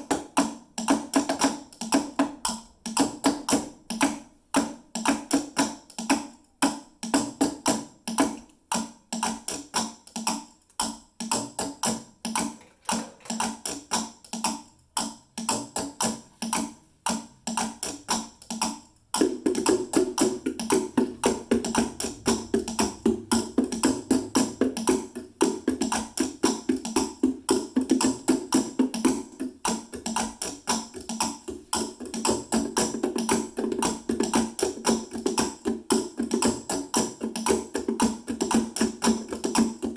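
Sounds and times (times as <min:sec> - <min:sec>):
drumming on plastic containers: 0:00.0 - 0:39.9.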